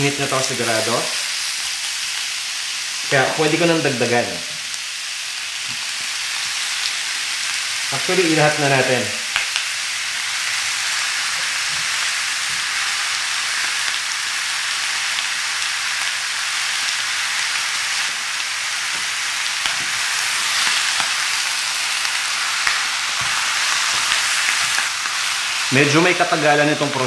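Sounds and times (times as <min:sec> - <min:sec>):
pork sizzling in a wok: 0:00.0 - 0:27.0.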